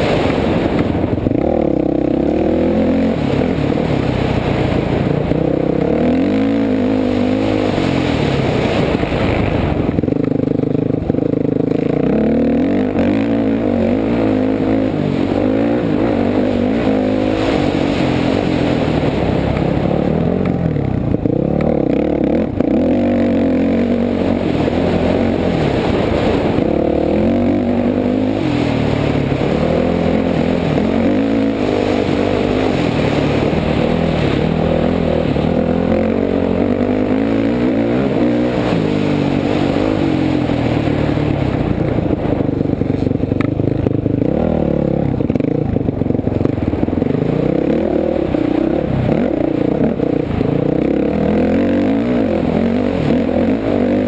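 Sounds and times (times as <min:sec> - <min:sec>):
dirt bike engine revving: 0:00.0 - 0:54.0
rattle and wind rush: 0:00.0 - 0:54.0.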